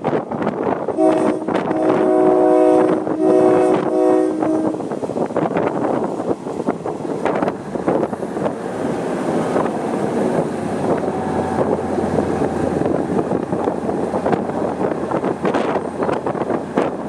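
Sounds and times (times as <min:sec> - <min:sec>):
train rumbling and rattling on rails: 0:00.0 - 0:17.0
wind buffeting microphone: 0:00.0 - 0:17.0.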